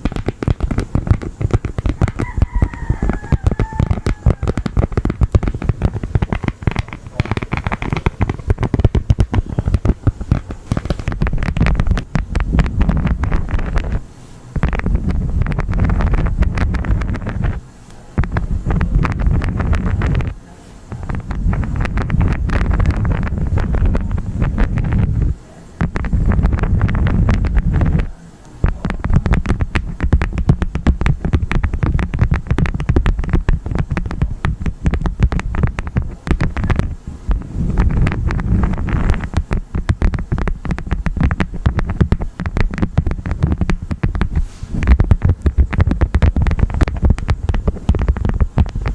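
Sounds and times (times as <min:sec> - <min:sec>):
wax crunching and crackling: 0:00.0 - 0:17.6, 0:18.2 - 0:48.9
wind on microphone: 0:00.0 - 0:48.9.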